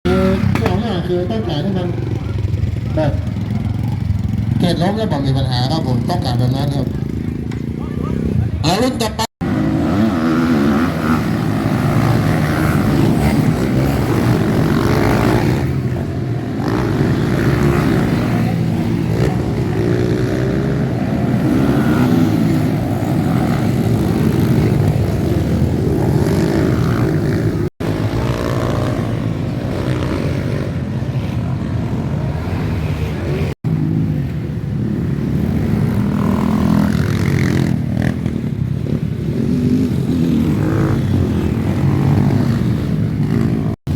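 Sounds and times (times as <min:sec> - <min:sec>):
dirt bike engines revving: 0:00.1 - 0:43.9.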